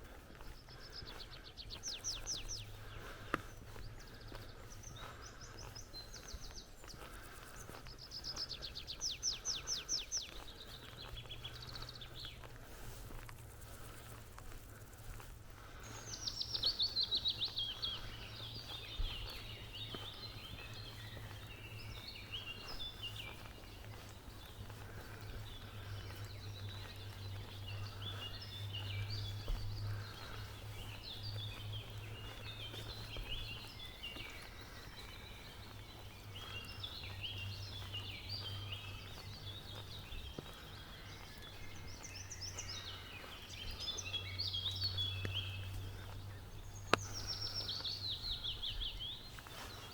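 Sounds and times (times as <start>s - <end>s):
songbirds chirping and trilling: 0.0s - 49.9s
steady low rumble: 0.0s - 49.9s.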